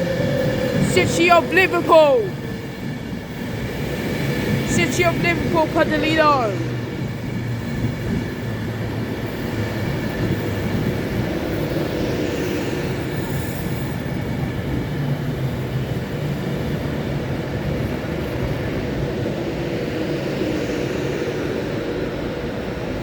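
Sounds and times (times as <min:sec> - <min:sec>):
electric train humming: 0:00.0 - 0:23.0.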